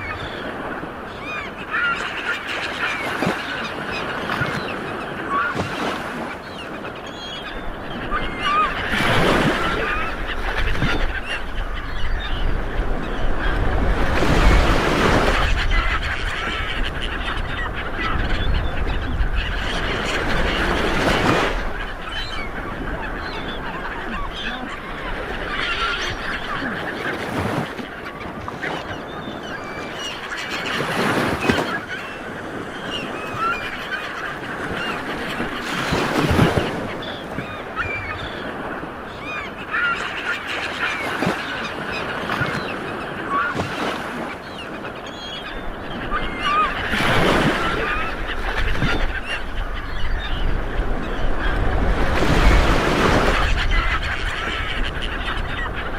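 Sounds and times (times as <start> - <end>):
waves surging: 0.0 - 17.4, 19.1 - 50.1, 50.7 - 55.9.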